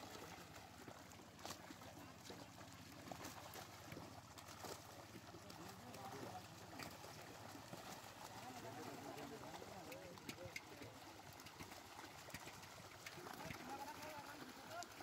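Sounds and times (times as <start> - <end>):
fish splashing in water: 0.0 - 15.0.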